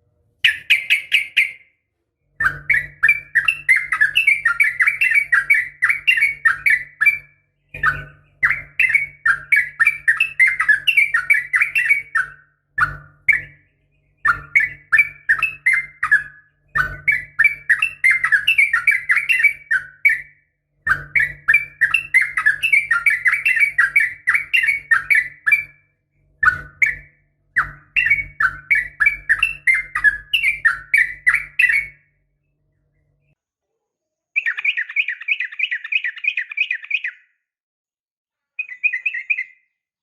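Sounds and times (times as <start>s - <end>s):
bulbul singing: 0.4s - 33.4s, 34.4s - 37.4s, 38.6s - 39.8s.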